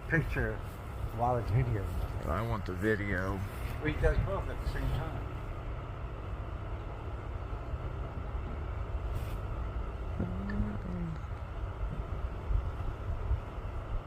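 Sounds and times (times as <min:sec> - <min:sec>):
motor vehicle running: 0:00.0 - 0:14.0.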